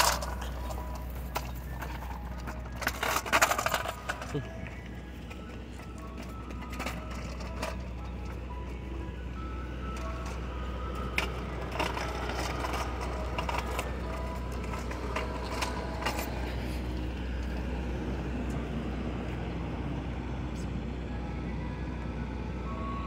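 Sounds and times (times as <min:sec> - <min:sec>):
footsteps on pavement: 0:00.0 - 0:19.5
truck engine idling: 0:00.0 - 0:23.0.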